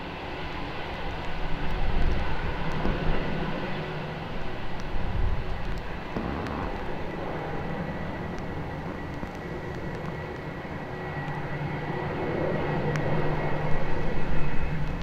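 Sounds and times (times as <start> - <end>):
low wind rumble: 0.0 - 15.0
turboprop engines humming and whining: 0.0 - 15.0.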